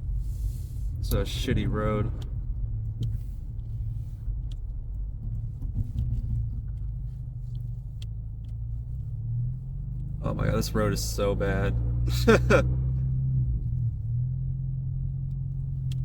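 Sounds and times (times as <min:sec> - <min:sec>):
car cabin engine and tyre drone: 0:00.0 - 0:16.0.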